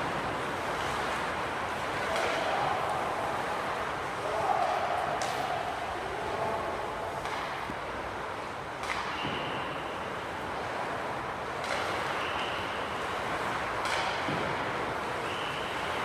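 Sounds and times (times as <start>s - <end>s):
skates scraping ice: 0.0s - 16.0s.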